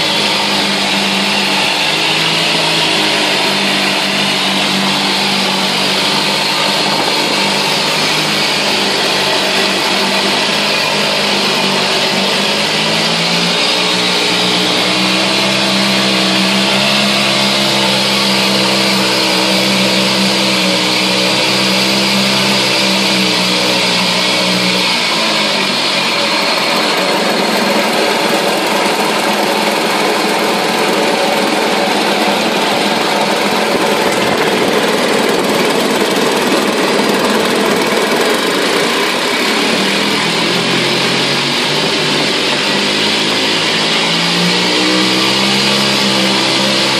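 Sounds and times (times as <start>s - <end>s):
outboard motor running: 0.0s - 46.9s
propeller churning water: 0.0s - 46.9s.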